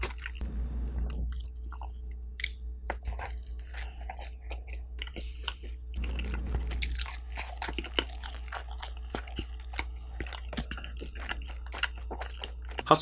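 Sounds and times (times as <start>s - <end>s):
crunchy pizza chewing: 0.0s - 0.4s, 1.1s - 13.0s
steady low hum: 0.0s - 13.0s.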